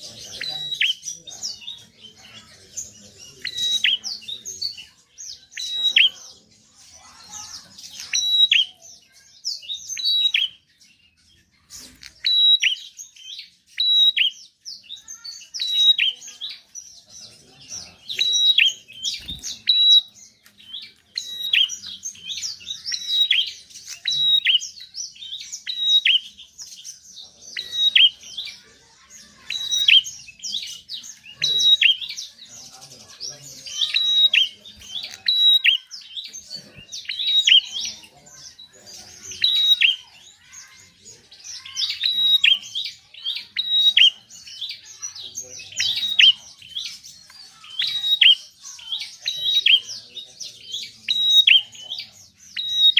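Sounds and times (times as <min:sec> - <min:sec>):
bird chattering high chirps: 0:00.0 - 0:52.9.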